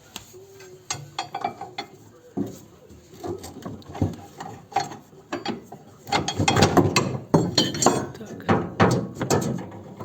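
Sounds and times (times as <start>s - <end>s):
metal clanks and knocks: 0.9s - 2.6s, 3.2s - 10.0s.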